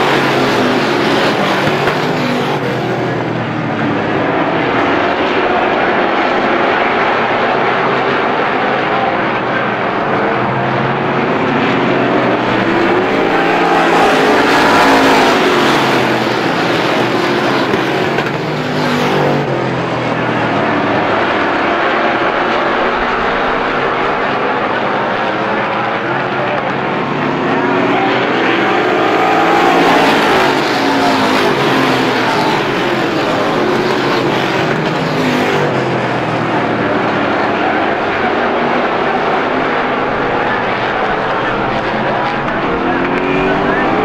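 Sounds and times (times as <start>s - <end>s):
race car engines passing: 0.0s - 44.0s.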